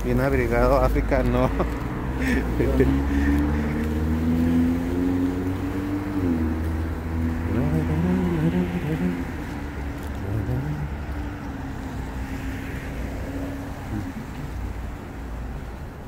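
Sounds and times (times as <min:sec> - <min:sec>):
car engines rumbling: 0:00.0 - 0:16.0
tyres hissing on wet pavement: 0:00.0 - 0:16.0.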